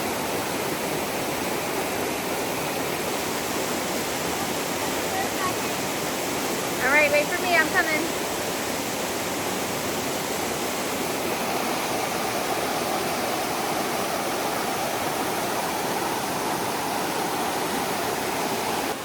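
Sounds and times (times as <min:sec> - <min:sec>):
river flowing over rocks: 0:00.0 - 0:19.0.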